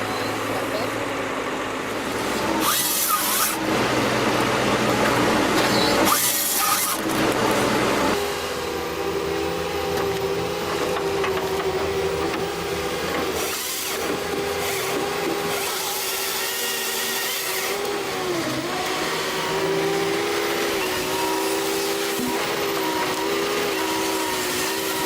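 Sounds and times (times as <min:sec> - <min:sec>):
power saw cutting wood: 0:00.0 - 0:25.0.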